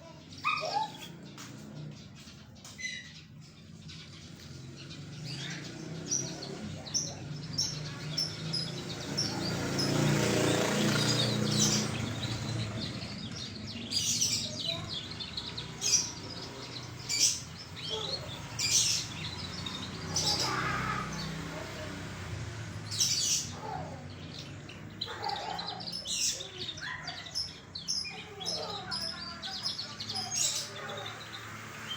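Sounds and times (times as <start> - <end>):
canary singing: 0.0 - 31.9.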